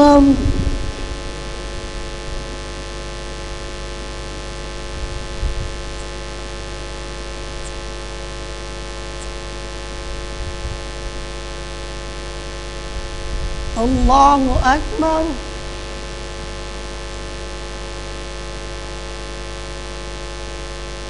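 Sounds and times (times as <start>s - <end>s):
electrical mains hum and hiss: 0.0s - 21.0s.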